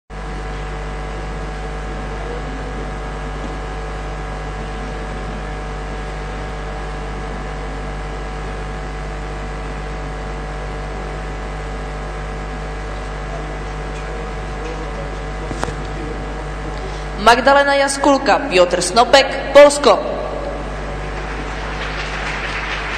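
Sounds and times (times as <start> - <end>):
steady hum and hiss: 0.2 - 22.9.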